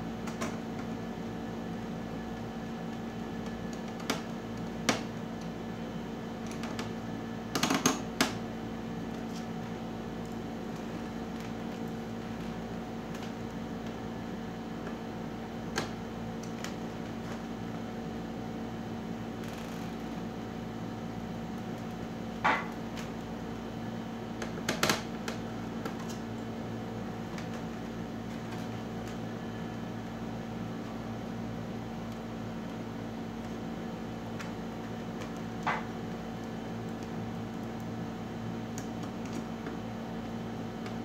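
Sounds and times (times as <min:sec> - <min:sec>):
appliance humming: 0:00.0 - 0:41.0.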